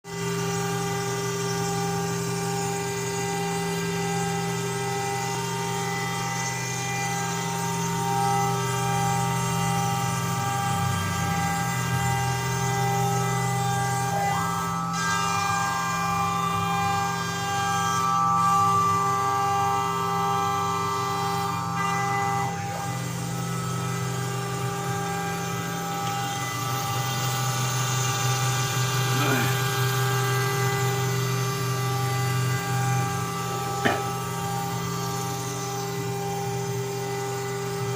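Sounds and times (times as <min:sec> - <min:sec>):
cnc router humming with whine: 0:00.1 - 0:37.9.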